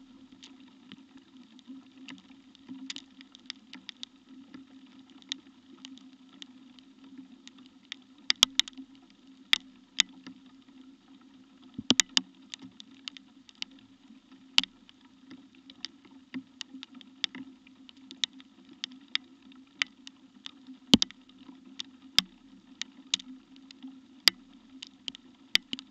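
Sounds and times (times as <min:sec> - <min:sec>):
raindrops ticking near microphone: 0:00.0 - 0:25.9.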